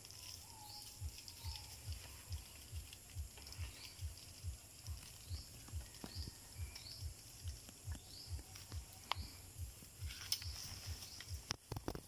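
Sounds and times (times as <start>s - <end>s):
faint bird chirps: 0.0s - 11.6s.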